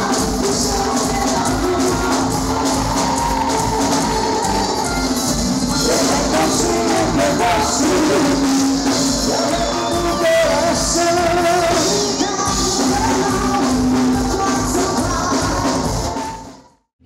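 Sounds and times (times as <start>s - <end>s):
person singing lead vocal: 0.0s - 16.6s
live band playing through pa: 0.0s - 16.8s.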